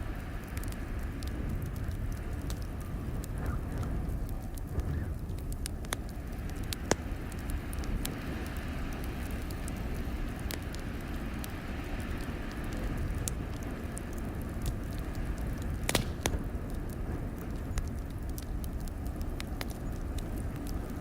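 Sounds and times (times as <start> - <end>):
blizzard wind rumble: 0.0 - 21.0
wood fire crackling and popping: 0.0 - 21.0.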